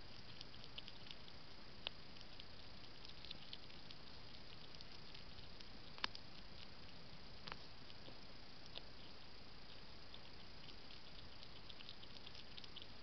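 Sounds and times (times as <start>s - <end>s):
hedgehog crunching food: 0.0s - 13.0s
steady hiss: 0.0s - 13.0s.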